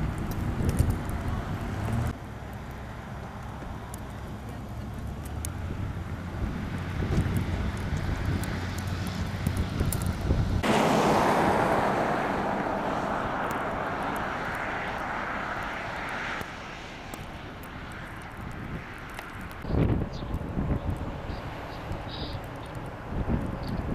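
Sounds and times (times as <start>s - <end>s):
low engine rumble: 0.0s - 23.9s.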